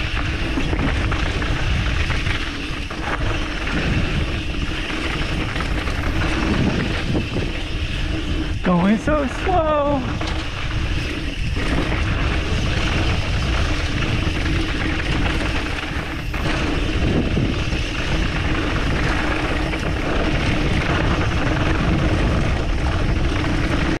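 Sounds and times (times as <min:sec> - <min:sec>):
bike tyre and drivetrain rattle: 0:00.0 - 0:24.0
wind rushing over microphone: 0:00.0 - 0:24.0.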